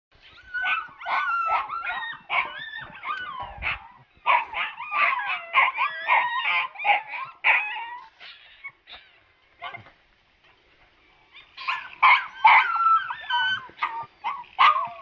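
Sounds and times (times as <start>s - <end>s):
puppies yipping and whining: 0.2s - 9.9s, 11.3s - 15.0s.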